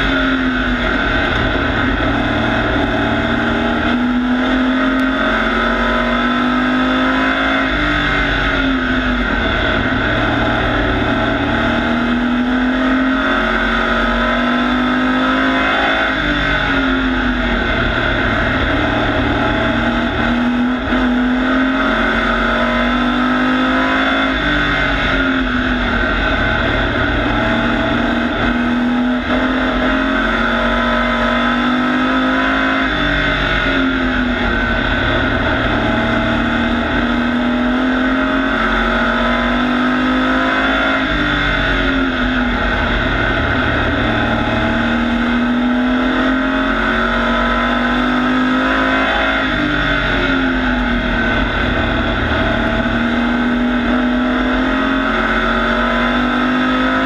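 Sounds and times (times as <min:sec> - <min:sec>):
race truck engine: 0:00.0 - 0:57.0.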